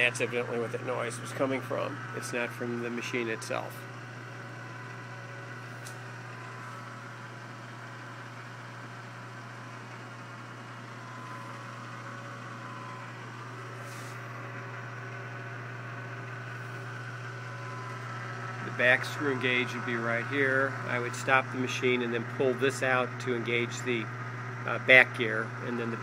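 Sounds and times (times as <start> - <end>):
lathe motor hum: 0.0 - 26.0.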